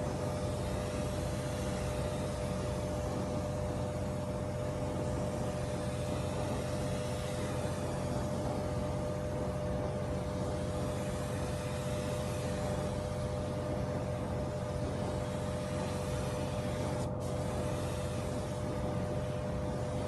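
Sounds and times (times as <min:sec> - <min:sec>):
constant hiss: 0:00.0 - 0:20.0.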